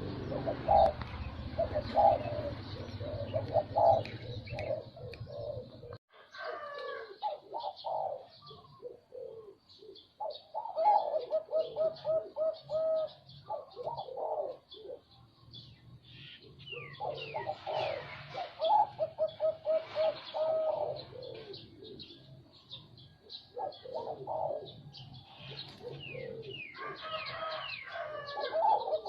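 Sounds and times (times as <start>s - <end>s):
zebra dove cooing: 0.0s - 15.2s, 16.1s - 29.0s.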